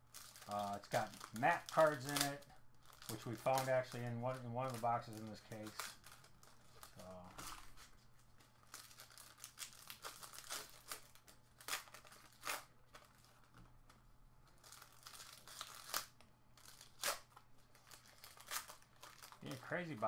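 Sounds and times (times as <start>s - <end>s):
wrapper crinkling: 0.0s - 20.0s
wrappers ripping: 0.1s - 13.5s, 14.5s - 20.0s.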